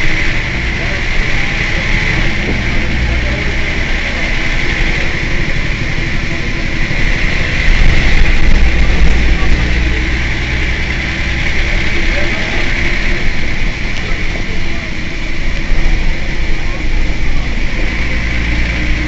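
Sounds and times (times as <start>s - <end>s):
bus engine idling: 0.0s - 19.0s.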